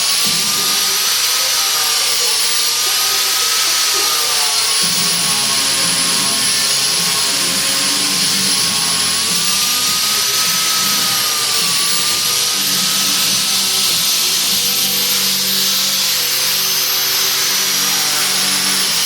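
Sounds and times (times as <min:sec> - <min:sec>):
power tool whining on rubber: 0:00.0 - 0:19.0.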